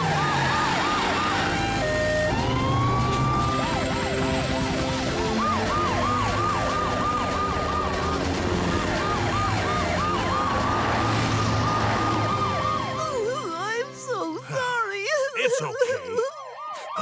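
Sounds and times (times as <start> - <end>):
fast yelping siren: 0.0 - 13.4, 15.8 - 17.0
wailing siren: 0.0 - 14.0, 15.7 - 17.0.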